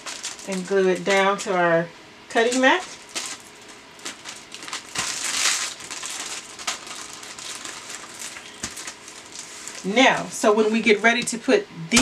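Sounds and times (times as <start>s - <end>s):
plastic bag crinkling: 0.0s - 1.5s, 2.3s - 10.8s.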